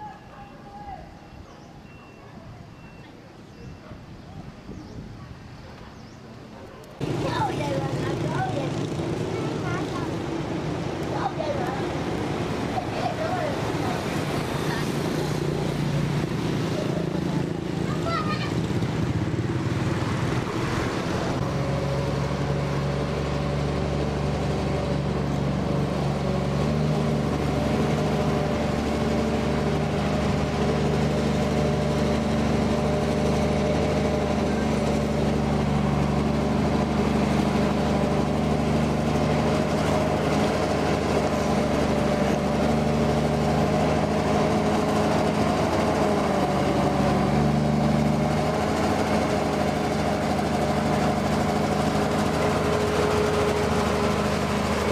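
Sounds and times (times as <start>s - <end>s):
lorry diesel engine running: 7.0s - 54.9s.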